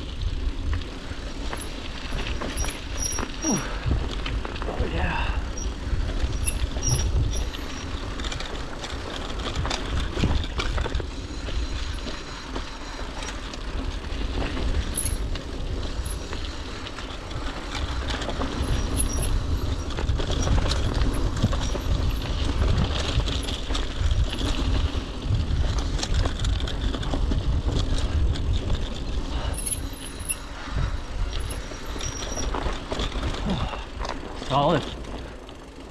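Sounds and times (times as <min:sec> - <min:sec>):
bike chain rattling: 0:00.0 - 0:35.9
bike tyres crunching on dirt: 0:00.0 - 0:35.9.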